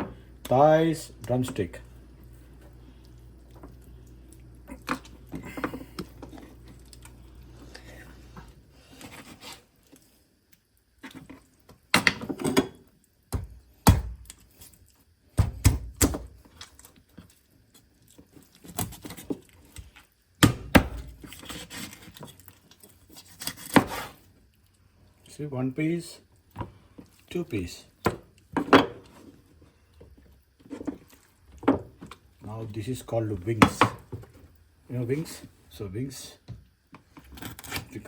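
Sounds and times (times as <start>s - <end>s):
low steady hum: 0.0s - 23.4s, 24.1s - 38.0s.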